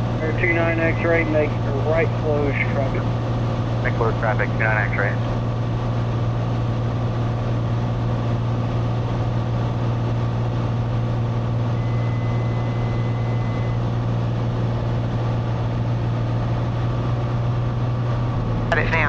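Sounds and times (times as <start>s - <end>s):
aircraft engine and propeller drone: 0.0s - 19.0s.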